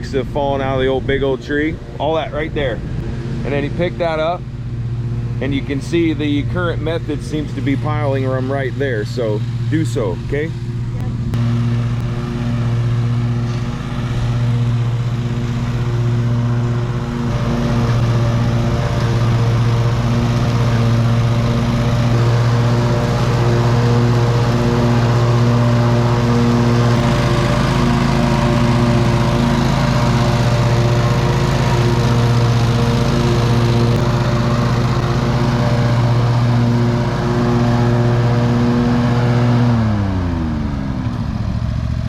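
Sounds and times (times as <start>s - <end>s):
riding lawn mower engine: 0.0s - 42.0s.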